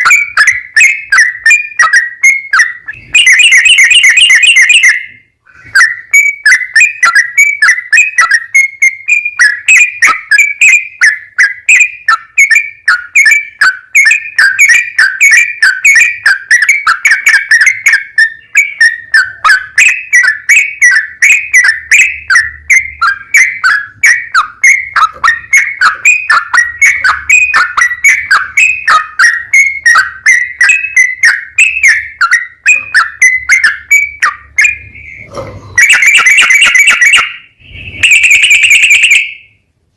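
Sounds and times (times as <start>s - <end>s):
bird singing bubbly whistles: 0.0s - 39.6s.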